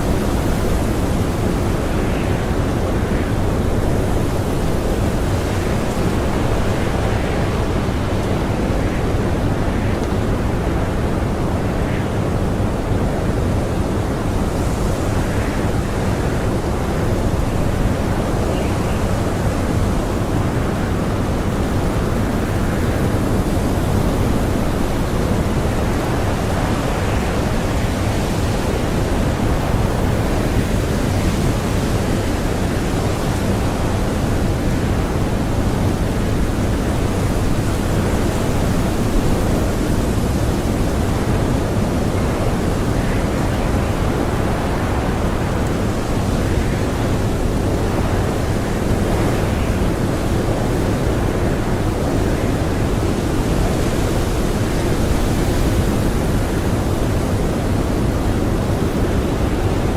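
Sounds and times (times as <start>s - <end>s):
blizzard wind howling: 0.0s - 59.9s.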